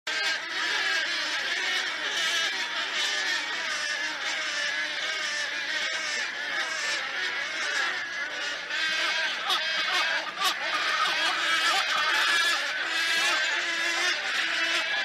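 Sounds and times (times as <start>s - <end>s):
birds chorus: 0.1s - 15.0s.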